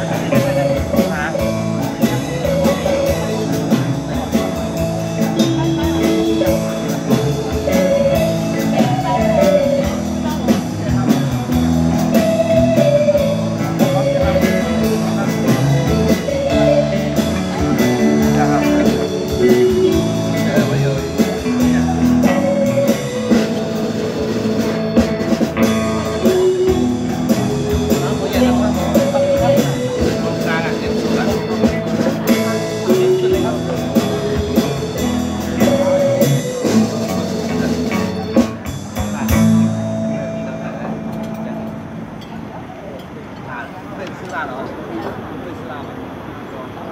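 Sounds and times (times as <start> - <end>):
drum kit beat: 0.0 - 42.2
electric guitar notes: 0.0 - 43.0.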